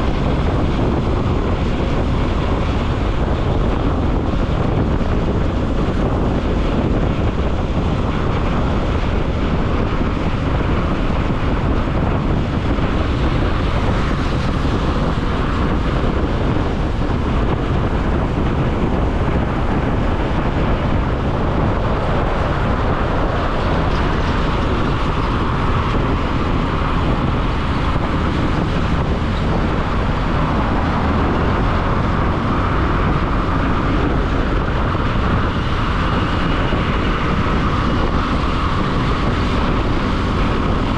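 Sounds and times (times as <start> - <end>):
motorcycle engine: 0.0 - 40.9
traffic noise: 0.0 - 40.9
wind rush on microphone: 0.0 - 40.9.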